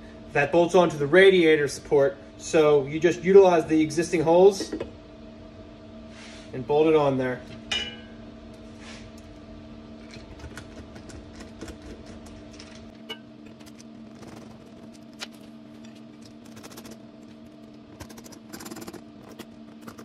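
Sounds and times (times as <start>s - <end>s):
steady electric hum: 0.0s - 20.0s.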